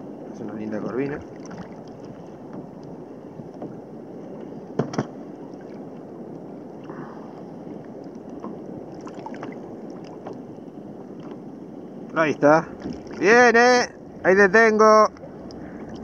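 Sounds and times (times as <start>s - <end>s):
sea water: 0.0s - 16.0s
wind on microphone: 0.0s - 16.0s.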